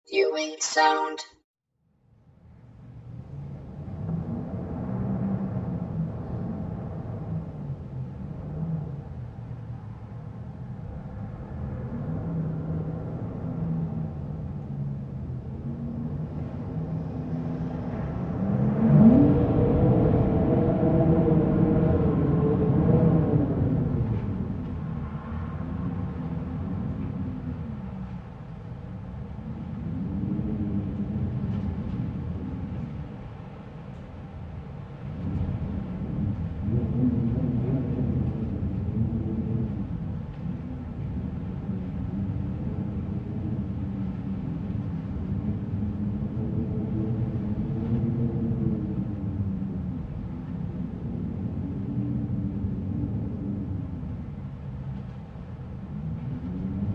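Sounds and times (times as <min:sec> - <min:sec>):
wind rumbling with hollow tones: 0:02.4 - 0:56.9.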